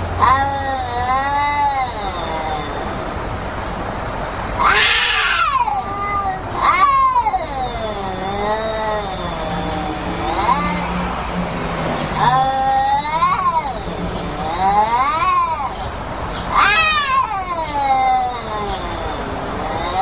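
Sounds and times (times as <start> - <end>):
cat yowling: 0.1 - 3.8, 4.6 - 11.3, 12.1 - 20.0.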